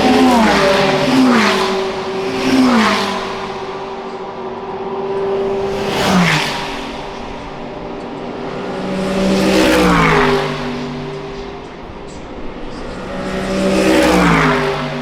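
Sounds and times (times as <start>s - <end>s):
race cars passing by: 0.0s - 15.0s
steady engine sound of cars: 0.0s - 15.0s.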